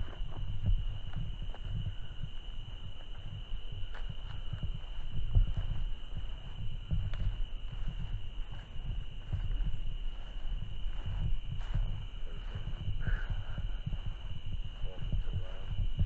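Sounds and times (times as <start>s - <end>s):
microphone handling rumble: 0.0s - 16.0s
night insects chirring: 0.0s - 16.0s.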